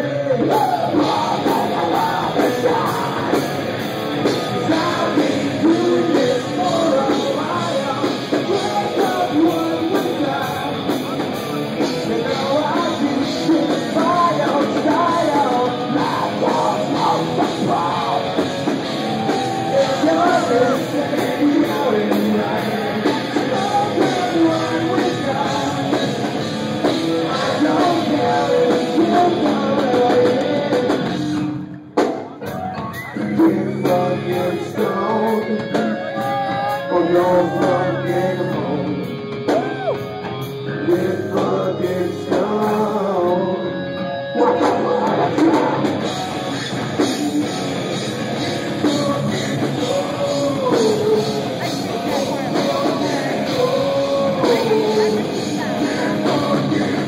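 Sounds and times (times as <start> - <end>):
heavy metal band playing live: 0.0 - 57.0
vocals: 0.0 - 57.0.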